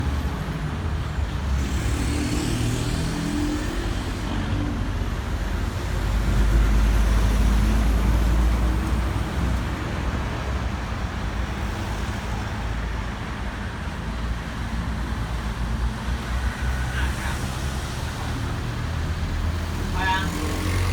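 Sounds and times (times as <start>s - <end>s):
road traffic noise: 0.0s - 20.9s.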